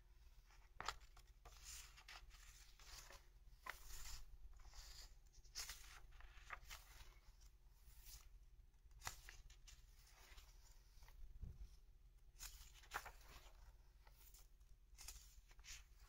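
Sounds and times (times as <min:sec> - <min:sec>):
paper pages rustling: 0:00.2 - 0:08.3, 0:08.9 - 0:11.8, 0:12.4 - 0:16.0.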